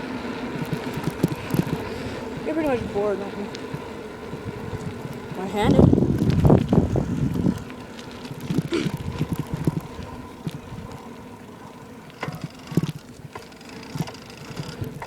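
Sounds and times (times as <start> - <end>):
bicycle rattles and knocks: 0.0 - 15.0.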